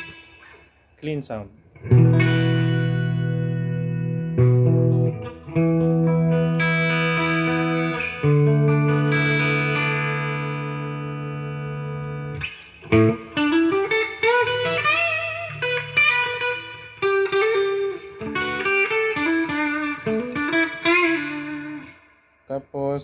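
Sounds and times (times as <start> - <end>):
electric guitar lead picking: 0.0 - 0.8, 1.7 - 22.4
electric guitar chord: 1.8 - 22.0.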